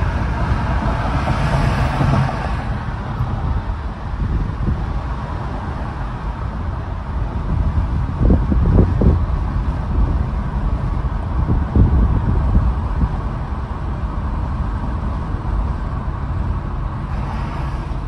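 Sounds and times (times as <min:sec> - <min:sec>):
car road and wind noise: 0:00.0 - 0:18.0.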